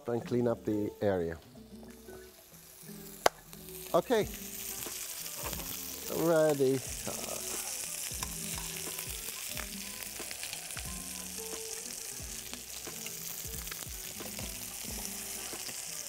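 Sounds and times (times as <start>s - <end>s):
chicken sizzling in a pan: 0.1s - 16.0s.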